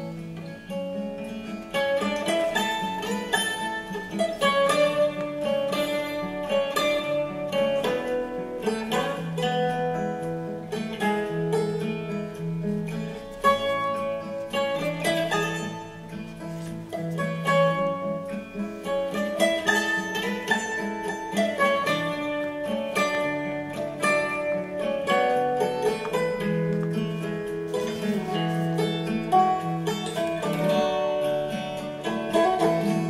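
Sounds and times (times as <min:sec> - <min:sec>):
plucked string melody: 0:00.0 - 0:33.0.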